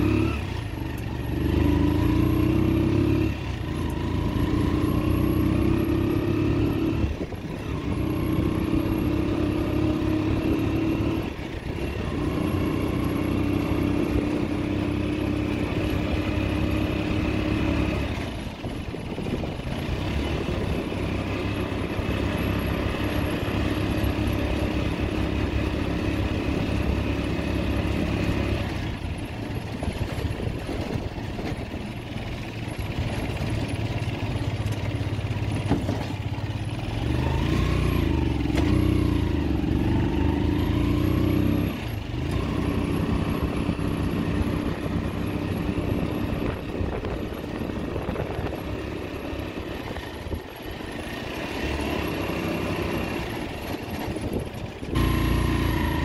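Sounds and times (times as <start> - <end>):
small motor vehicle engine droning: 0.0 - 56.0.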